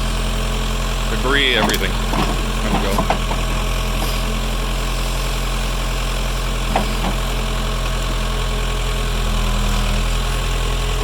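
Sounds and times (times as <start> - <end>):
backhoe engine running: 0.0 - 11.0.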